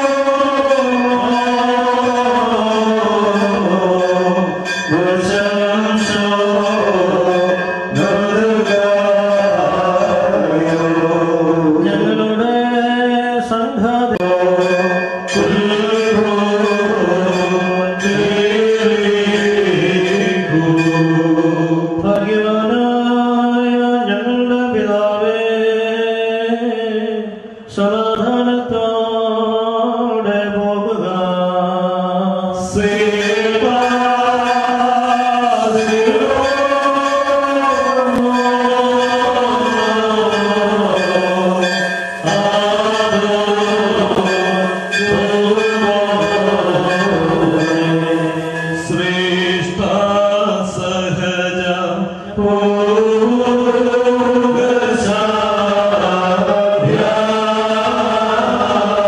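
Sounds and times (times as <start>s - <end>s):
voices chanting a hymn: 0.0s - 59.0s.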